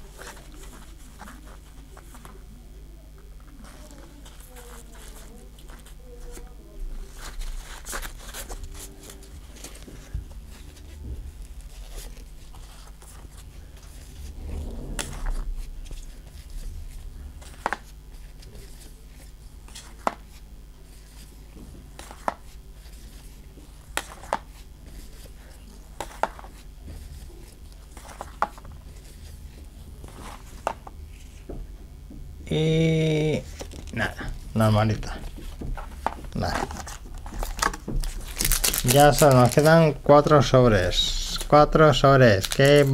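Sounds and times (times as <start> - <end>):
cards rustling: 0.0 - 2.6, 3.3 - 31.6, 32.5 - 42.9
low steady hum: 0.0 - 42.9.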